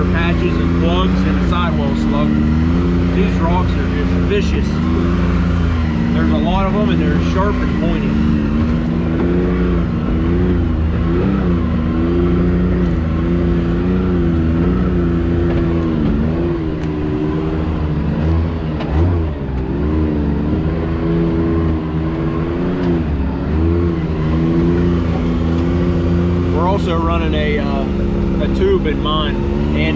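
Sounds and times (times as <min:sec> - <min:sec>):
turbocharged engine revving: 0:00.0 - 0:29.9.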